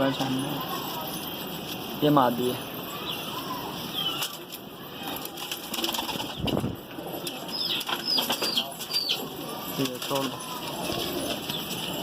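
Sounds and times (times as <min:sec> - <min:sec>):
pigeons calling: 0:00.0 - 0:12.0.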